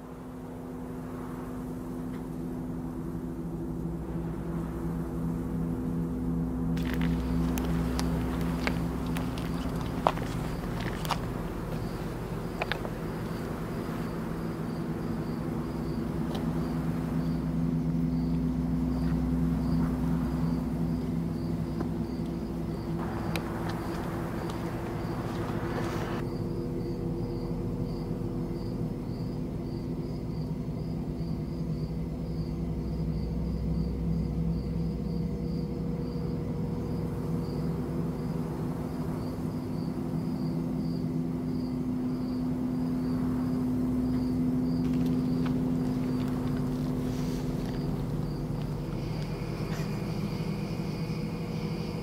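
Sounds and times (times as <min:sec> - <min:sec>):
crickets chirping: 0:00.0 - 0:52.0
steady low hum: 0:00.0 - 0:52.0.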